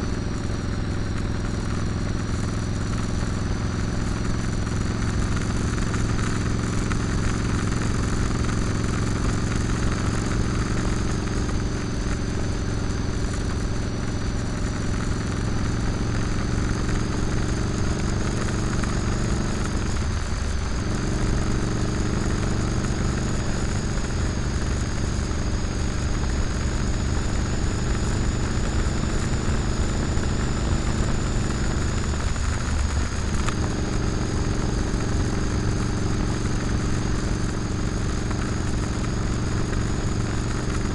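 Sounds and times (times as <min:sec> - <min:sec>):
motorcycle engine cruising: 0:00.0 - 0:40.9
steady rush of noise: 0:00.0 - 0:40.9.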